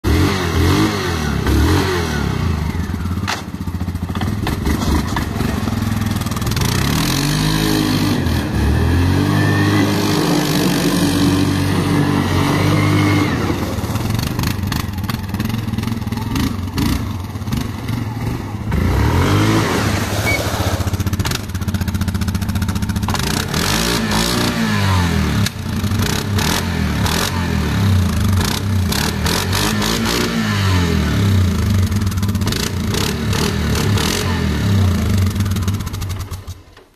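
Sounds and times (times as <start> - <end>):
atv engine revving: 0.0 - 36.8.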